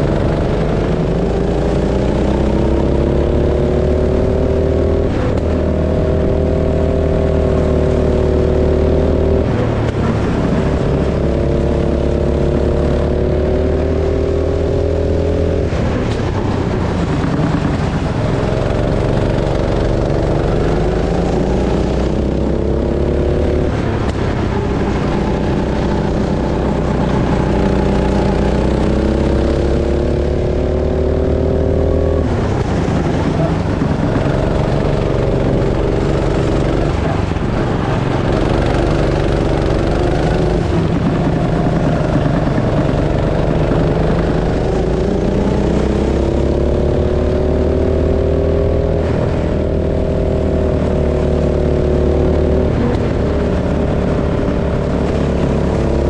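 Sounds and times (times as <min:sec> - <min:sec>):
go-kart engine accelerating: 0:00.0 - 0:56.0.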